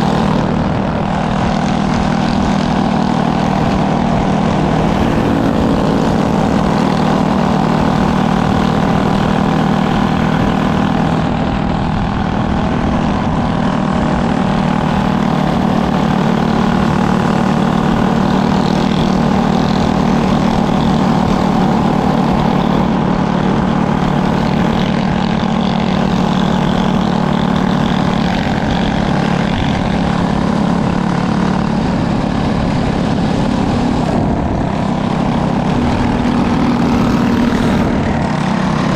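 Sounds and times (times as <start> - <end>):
propeller aircraft engine droning: 0.0 - 38.9.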